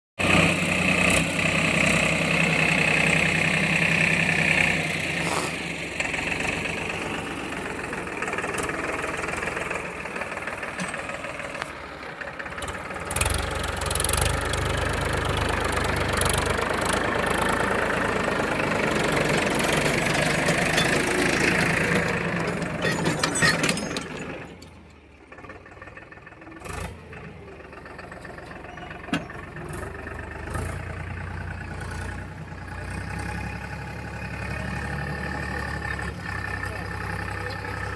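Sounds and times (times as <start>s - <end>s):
tractor engine running: 0.2s - 37.9s.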